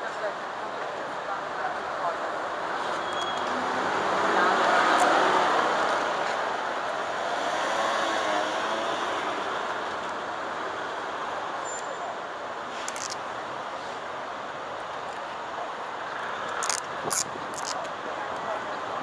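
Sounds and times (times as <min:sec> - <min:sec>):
steady traffic noise: 0:00.0 - 0:19.0.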